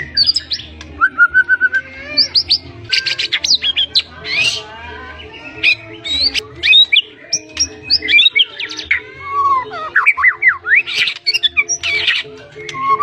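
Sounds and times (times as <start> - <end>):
bird singing whistled song: 0.0 - 4.7, 5.3 - 13.0
harsh rasping bird notes: 0.0 - 13.0.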